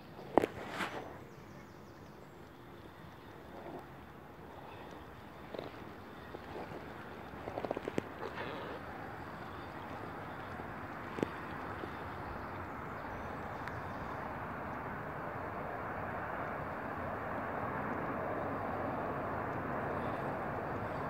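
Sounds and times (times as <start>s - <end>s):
distant engine rumble: 0.0s - 21.0s.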